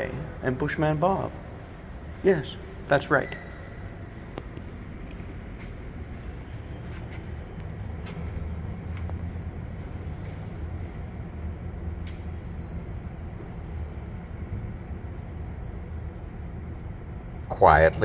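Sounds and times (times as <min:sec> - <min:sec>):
low mechanical hum: 0:00.0 - 0:18.0
rumbling background: 0:00.0 - 0:18.0.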